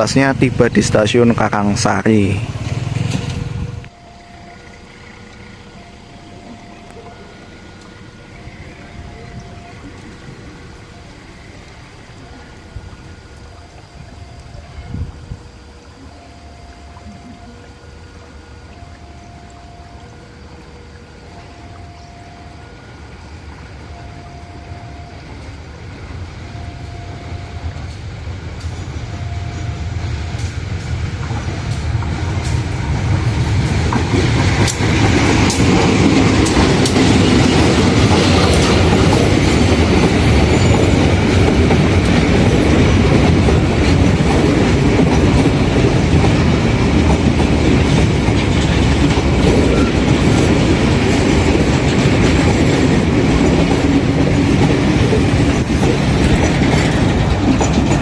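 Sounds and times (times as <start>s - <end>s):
wheels clacking over rail joints: 0.0s - 16.0s, 25.2s - 58.0s
diesel locomotive passing: 0.0s - 58.0s.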